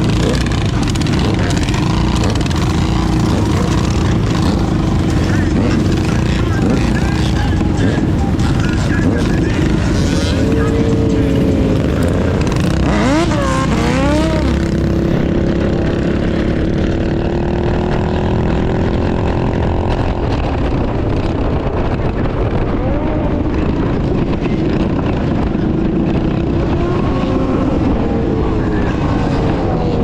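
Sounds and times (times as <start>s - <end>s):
low engine rumble: 0.0s - 30.0s
motorcycle engine revving: 0.0s - 30.0s.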